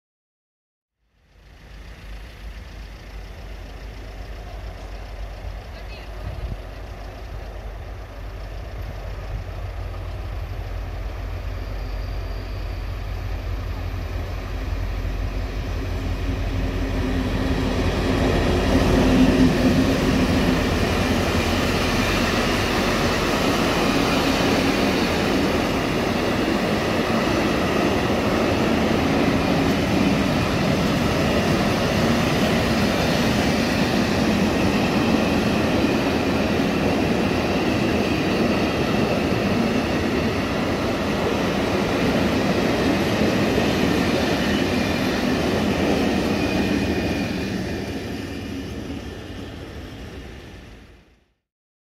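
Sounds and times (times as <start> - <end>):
diesel locomotive engine rumble: 1.0 - 51.3
freight wagons wheel and rail noise: 1.0 - 51.3.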